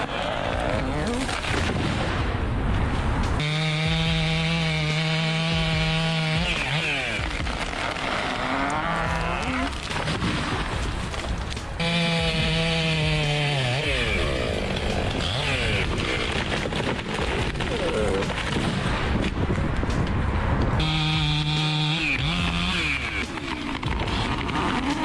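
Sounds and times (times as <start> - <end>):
chainsaw revving: 0.0 - 1.8, 3.4 - 18.8, 20.8 - 25.0.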